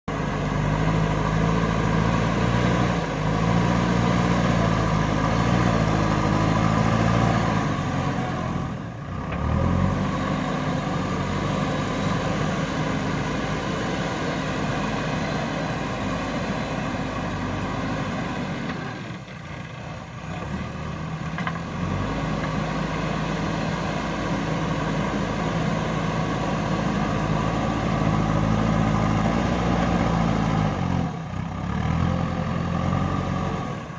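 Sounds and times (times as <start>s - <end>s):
backhoe diesel engine running: 0.1s - 33.9s.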